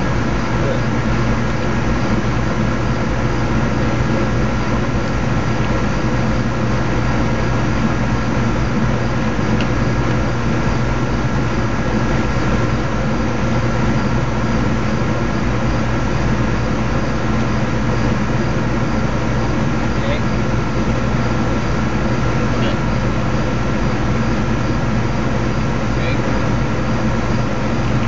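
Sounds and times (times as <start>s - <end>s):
steady machine drone: 0.0s - 28.0s.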